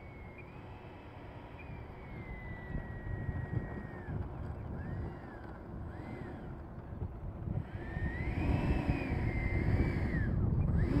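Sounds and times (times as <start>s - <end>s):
electric ducted fan whine: 0.0s - 11.0s
wind rumbling on microphone: 0.0s - 11.0s.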